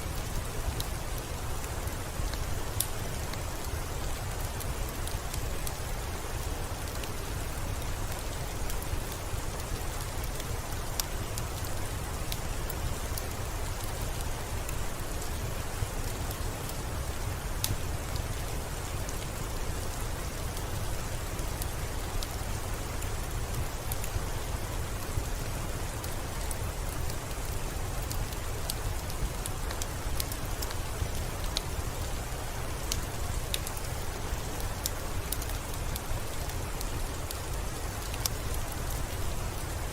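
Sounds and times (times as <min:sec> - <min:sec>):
steady rain falling: 0:00.0 - 0:39.9
wood fire crackling: 0:00.0 - 0:39.9.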